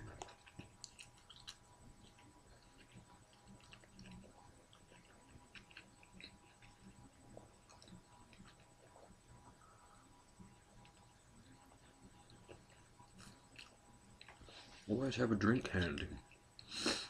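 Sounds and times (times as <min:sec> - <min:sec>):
person chewing: 0:00.0 - 0:14.8
faint steady hum: 0:00.0 - 0:17.0.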